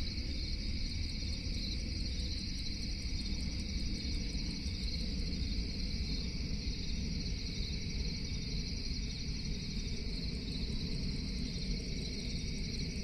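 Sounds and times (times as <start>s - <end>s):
constant low rumble: 0.0s - 13.0s
crickets chirping: 0.0s - 13.0s.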